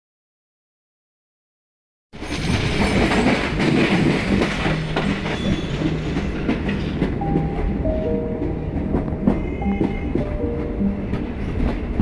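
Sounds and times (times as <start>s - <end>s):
train rumble: 2.2s - 12.0s
wheels clicking over rail joints: 2.2s - 12.0s.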